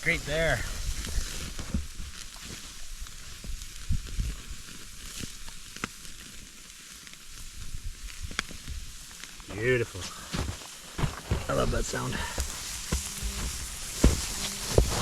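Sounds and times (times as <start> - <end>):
steak sizzling on a grill: 0.0 - 10.0, 11.6 - 15.0.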